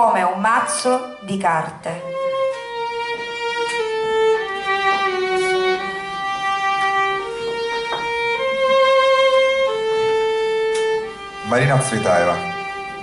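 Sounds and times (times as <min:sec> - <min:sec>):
solo violin slow melody: 0:00.0 - 0:13.0.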